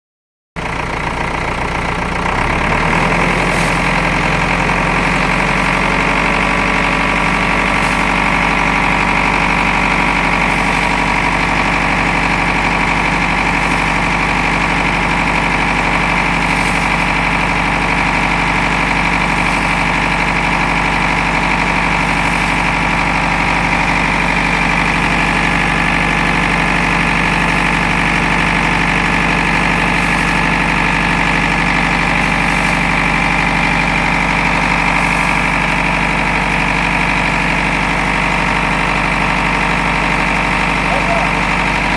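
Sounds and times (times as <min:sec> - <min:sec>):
engine idling: 0:00.6 - 0:41.9.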